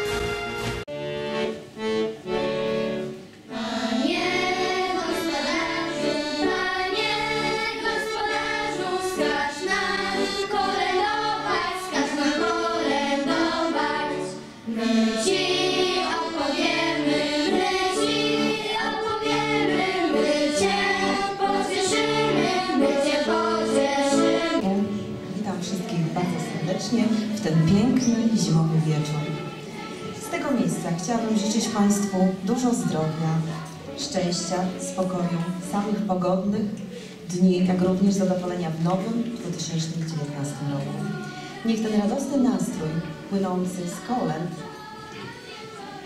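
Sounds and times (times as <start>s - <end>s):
instrumental accompaniment: 0.0s - 46.0s
children's choir singing: 0.9s - 46.0s.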